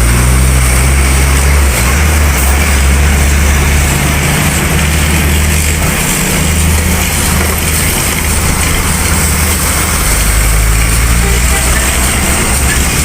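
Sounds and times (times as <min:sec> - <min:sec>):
heavy vehicle engine droning: 0:00.0 - 0:13.0
traffic hiss: 0:00.0 - 0:13.0.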